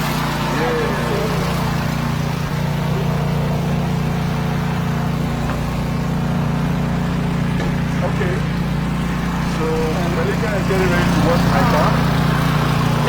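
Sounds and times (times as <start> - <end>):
pressure washer pump humming: 0.0 - 13.0.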